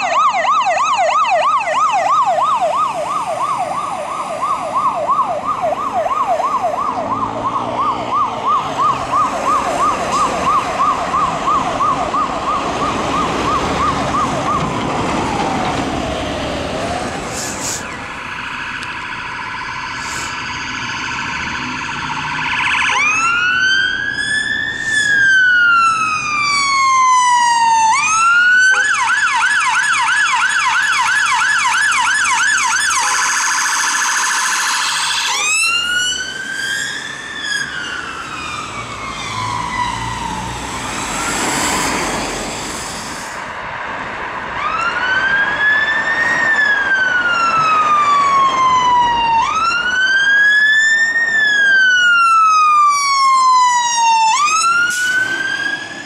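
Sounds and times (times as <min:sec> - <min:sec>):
emergency sirens wailing and yelping: 0:00.0 - 0:56.0
road traffic: 0:00.0 - 0:56.0.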